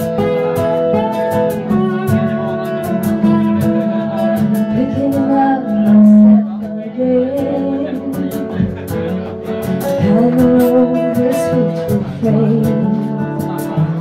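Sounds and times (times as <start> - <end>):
person singing: 0.0 - 8.9, 9.8 - 14.0
acoustic guitar: 0.0 - 14.0.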